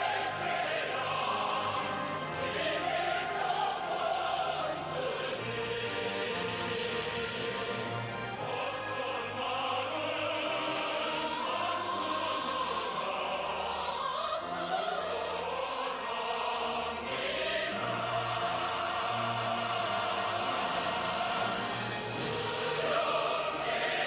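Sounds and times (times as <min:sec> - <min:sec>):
opera singers: 0:00.0 - 0:24.0
orchestra: 0:00.0 - 0:24.0.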